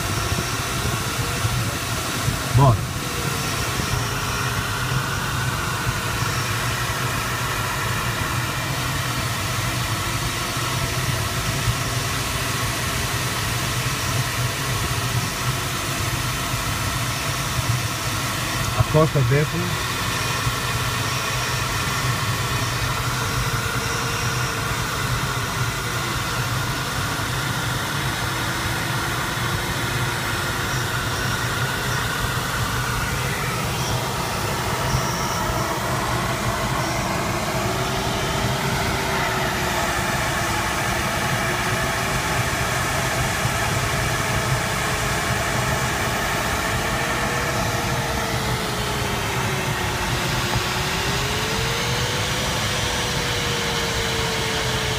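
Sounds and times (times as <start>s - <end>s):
airflow rushing in cockpit: 0.0s - 54.9s.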